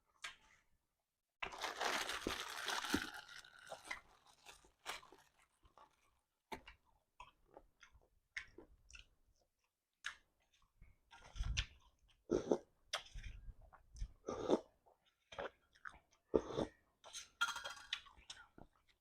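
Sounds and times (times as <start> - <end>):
person chewing and crunching: 1.4 - 17.3.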